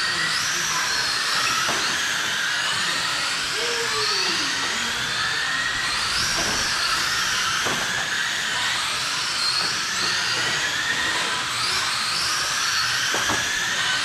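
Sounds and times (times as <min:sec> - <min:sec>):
electric motors and gears whining: 0:00.0 - 0:14.0.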